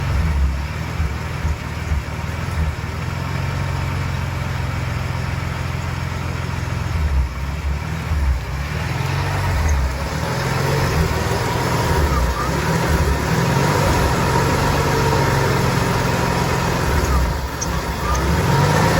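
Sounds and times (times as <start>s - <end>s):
engine idling roughly: 0.0s - 18.9s.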